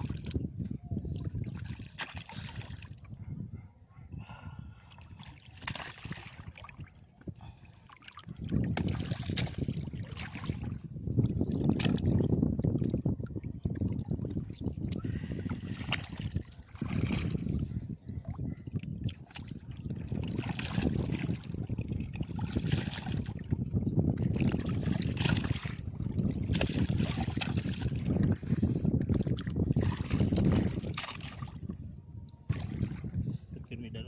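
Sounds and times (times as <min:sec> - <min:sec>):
water splashing and sloshing: 0:00.0 - 0:03.3, 0:04.7 - 0:33.8
wind rumbling on microphone: 0:00.0 - 0:34.0.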